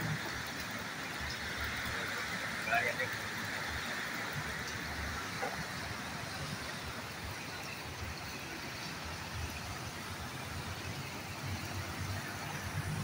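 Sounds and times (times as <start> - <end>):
rain hissing: 0.0 - 13.0
traffic on wet road: 0.0 - 13.0.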